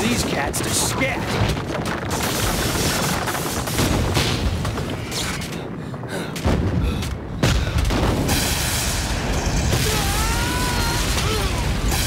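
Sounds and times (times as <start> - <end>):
explosions with crackling rumble: 0.0 - 12.0.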